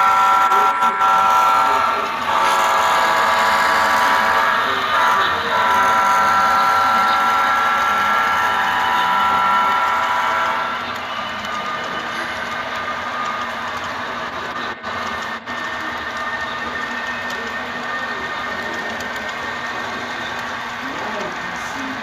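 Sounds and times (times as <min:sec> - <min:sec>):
model train running: 0:00.0 - 0:22.0.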